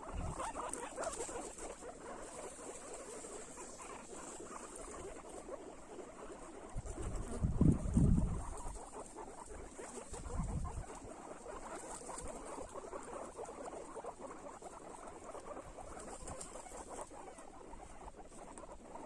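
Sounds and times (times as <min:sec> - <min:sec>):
guinea pigs chewing: 0:00.0 - 0:19.0.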